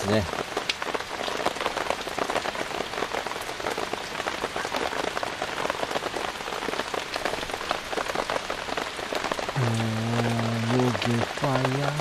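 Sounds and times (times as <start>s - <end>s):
heavy rain on a tarp: 0.0s - 12.0s.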